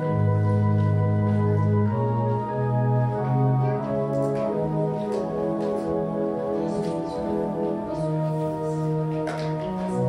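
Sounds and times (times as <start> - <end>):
organ playing slow chords: 0.0 - 10.0.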